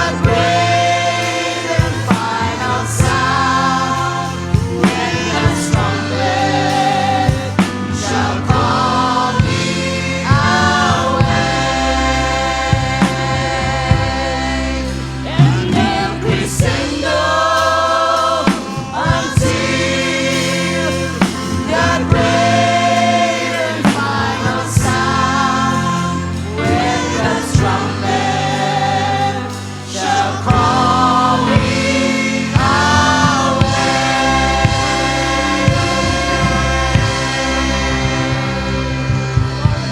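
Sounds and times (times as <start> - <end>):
choir singing gospel: 0.0 - 39.9
instrumental accompaniment: 0.0 - 39.9.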